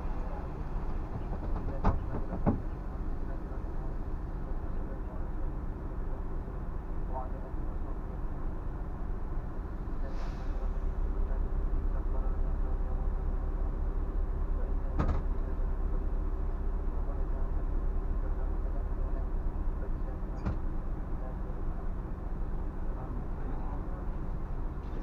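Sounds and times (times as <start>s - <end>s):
bus diesel engine drone: 0.0s - 25.0s.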